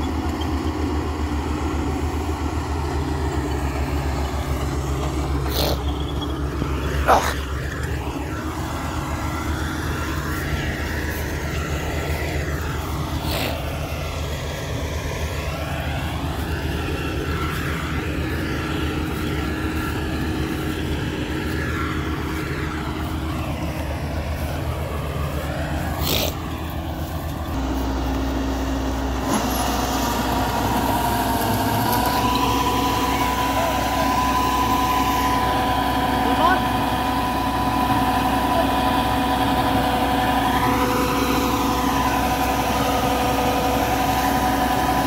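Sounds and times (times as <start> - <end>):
combine harvester engine running: 0.0 - 45.0
steady machine whine: 0.0 - 45.0.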